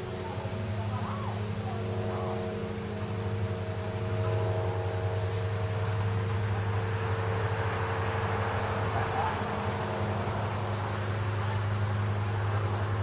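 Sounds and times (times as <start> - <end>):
tyre and road noise: 0.0 - 13.0
vehicle engine humming: 0.0 - 13.0.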